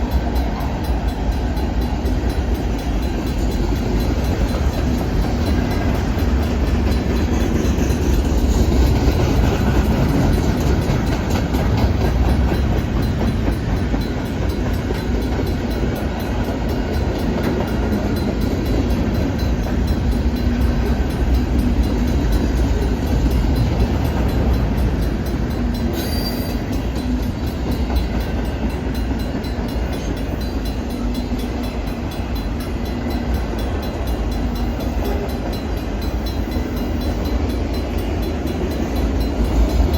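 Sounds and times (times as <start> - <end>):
steel wheels rumbling on rails: 0.0 - 39.9
wheels clacking over rail joints: 0.0 - 39.9.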